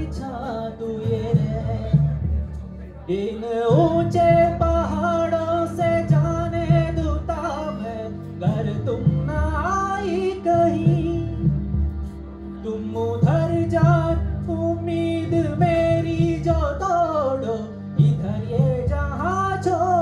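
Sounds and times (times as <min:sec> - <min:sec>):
instrumental accompaniment with low beat: 0:00.0 - 0:20.0
man singing into microphone: 0:00.0 - 0:20.0.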